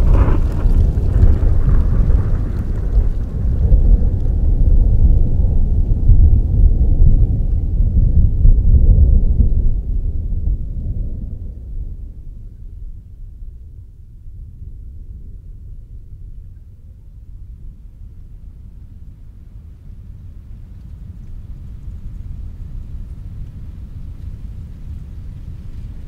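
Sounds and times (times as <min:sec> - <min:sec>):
deep steady rumble: 0:00.0 - 0:26.0.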